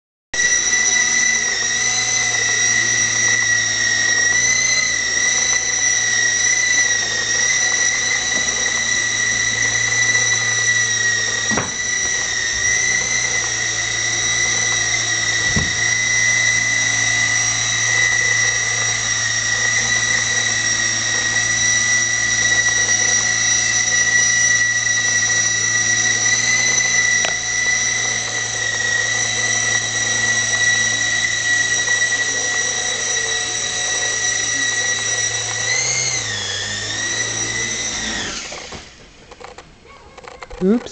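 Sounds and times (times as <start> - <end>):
electric motors whining: 0.4 - 40.9
low hum of rotors: 0.4 - 40.9.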